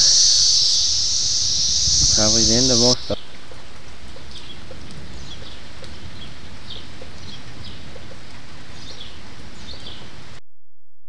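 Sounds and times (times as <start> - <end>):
tape hiss: 0.0 - 10.4.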